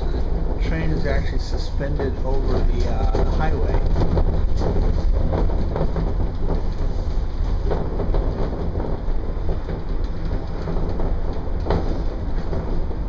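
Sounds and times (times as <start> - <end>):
monorail car rumbling: 0.0 - 13.0.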